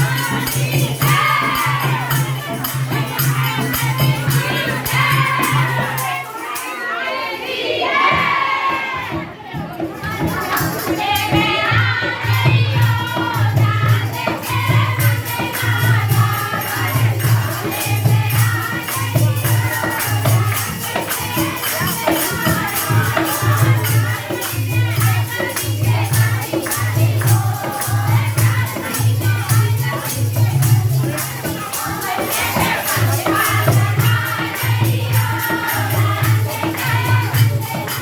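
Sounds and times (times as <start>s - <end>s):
jingling tambourine: 0.0s - 38.0s
voices singing devotional song: 0.0s - 38.0s.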